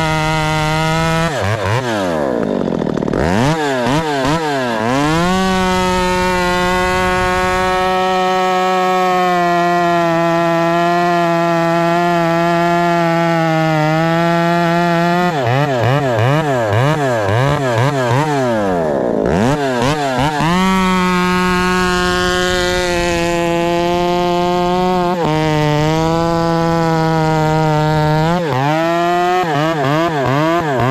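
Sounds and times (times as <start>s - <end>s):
chainsaw running at high revs: 0.0s - 30.9s.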